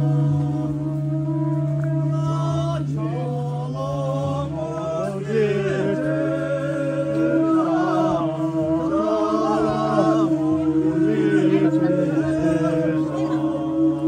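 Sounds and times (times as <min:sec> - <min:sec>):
steady low drone: 0:00.0 - 0:14.0
wavering chant-like melody: 0:00.0 - 0:14.0.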